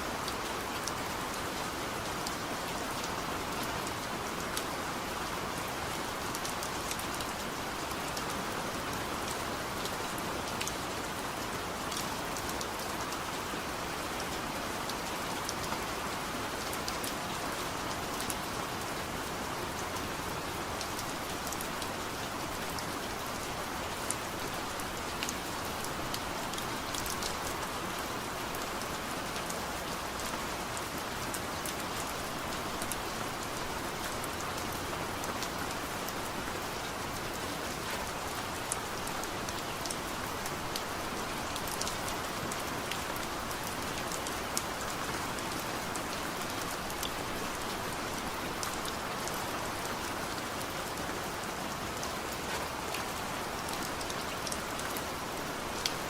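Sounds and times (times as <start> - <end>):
heavy rain falling: 0.0 - 56.0
raindrops ticking on a surface: 0.2 - 56.0.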